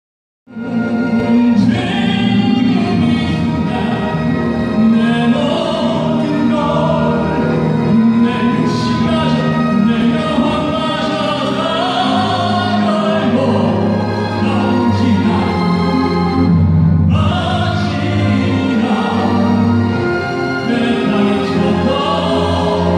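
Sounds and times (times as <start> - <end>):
instrumental accompaniment: 0.5 - 22.9
man singing operatically: 0.6 - 16.4, 17.1 - 22.9.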